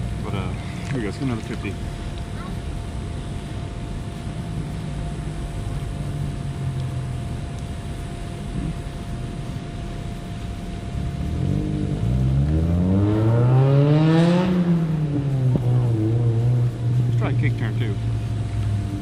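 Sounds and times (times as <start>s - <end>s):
faint constant hum: 0.0s - 19.0s
rising whine: 0.0s - 19.0s.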